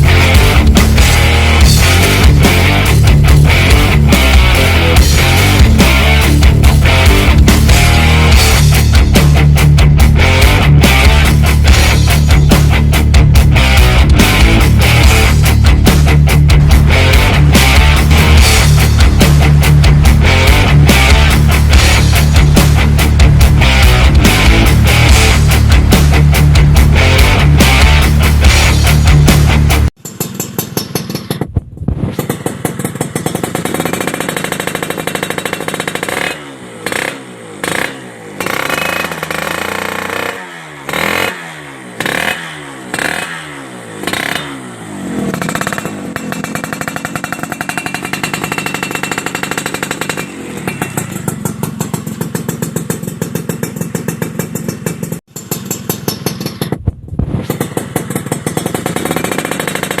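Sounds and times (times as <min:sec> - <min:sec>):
motorcycle idling and revving: 0:00.0 - 1:00.0.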